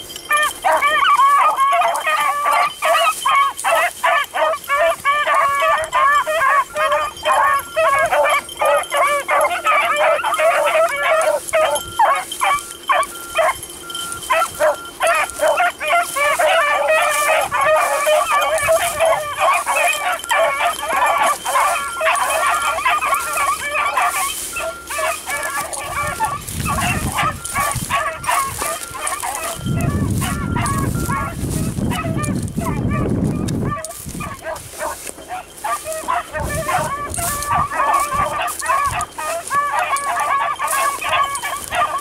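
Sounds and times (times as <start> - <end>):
beagles baying: 0.0 - 42.0.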